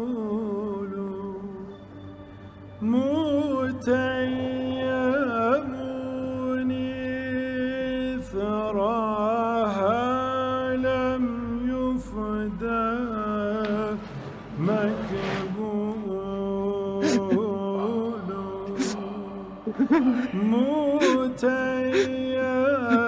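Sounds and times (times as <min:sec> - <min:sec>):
man singing wordless chant: 0:00.0 - 0:01.8, 0:02.8 - 0:23.0.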